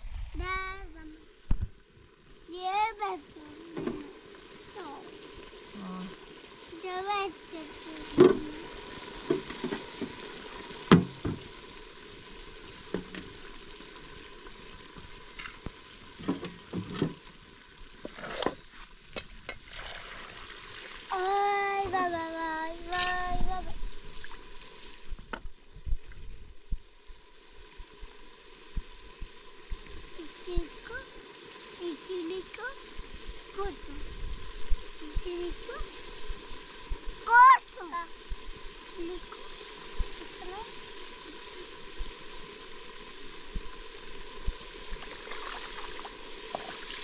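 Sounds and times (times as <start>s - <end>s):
pot of water boiling: 0.0s - 47.0s.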